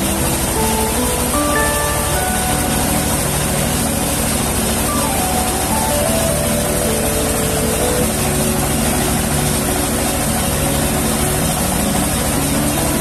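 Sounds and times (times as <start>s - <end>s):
rice milling machine running: 0.0s - 13.0s.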